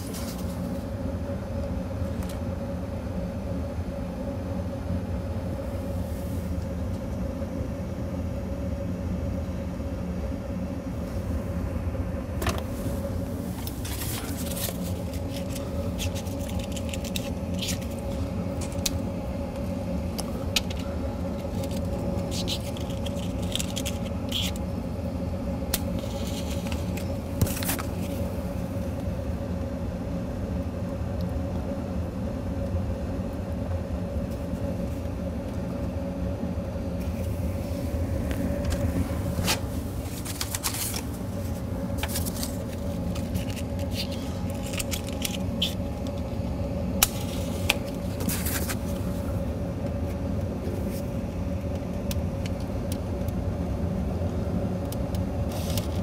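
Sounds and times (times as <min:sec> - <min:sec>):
boiler fan humming: 0:00.0 - 0:56.0.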